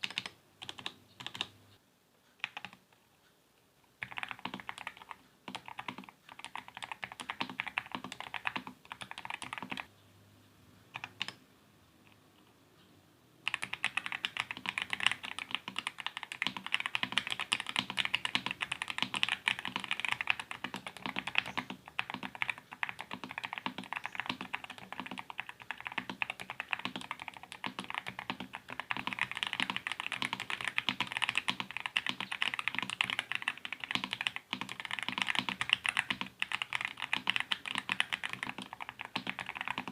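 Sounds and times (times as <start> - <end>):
fast mechanical keyboard typing: 0.0 - 1.5, 2.4 - 2.8, 4.0 - 9.9, 11.0 - 11.4, 13.5 - 39.9.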